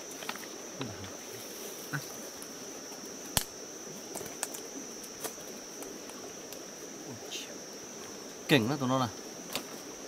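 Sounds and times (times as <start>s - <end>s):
insects singing: 0.0s - 10.0s.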